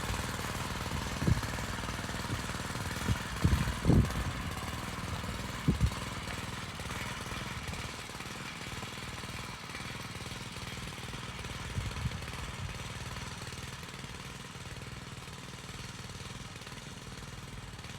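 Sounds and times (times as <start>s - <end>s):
tiller engine chugging: 0.0s - 17.9s.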